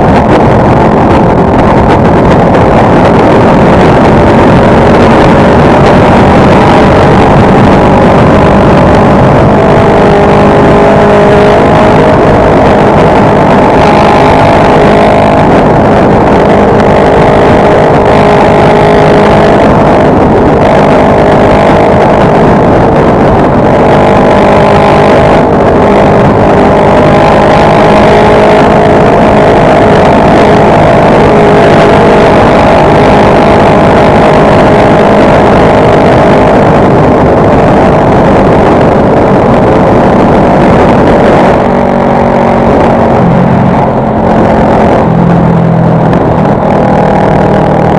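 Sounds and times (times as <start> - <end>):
heavy wind noise: 0.0 - 47.9
motorcycle engine running: 0.0 - 47.9.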